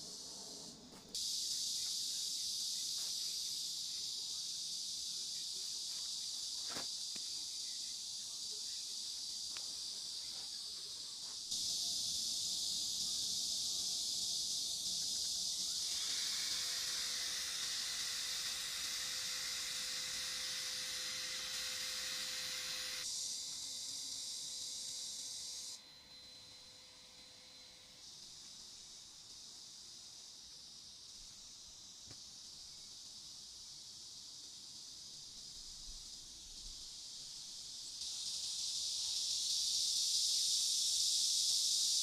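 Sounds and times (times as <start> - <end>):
high-pitched outdoor hiss: 0.0 - 42.0.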